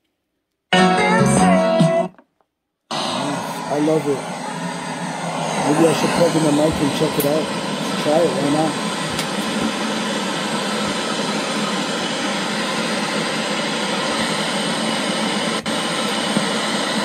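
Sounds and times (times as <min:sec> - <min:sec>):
radio static hiss: 0:02.9 - 0:17.0.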